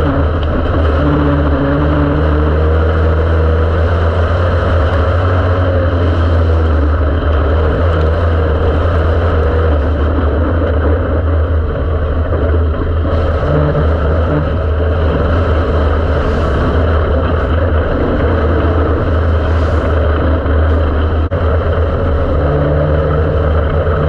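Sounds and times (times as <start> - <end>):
race car engine running: 0.0 - 24.0.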